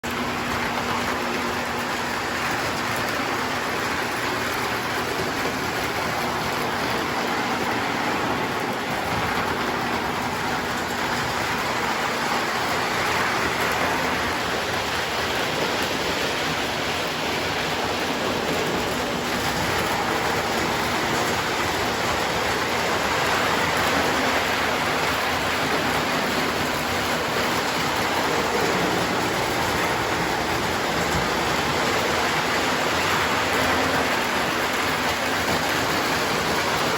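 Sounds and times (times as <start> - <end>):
toy train whirring rumble: 0.0 - 36.9.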